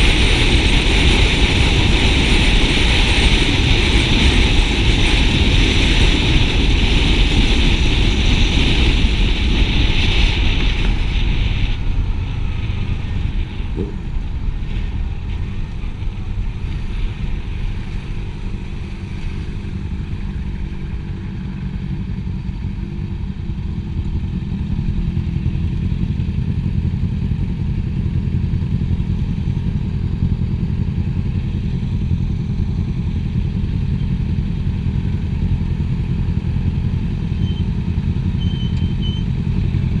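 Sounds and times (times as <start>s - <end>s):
motorcycle engine running: 0.0s - 40.0s
road noise: 0.0s - 40.0s.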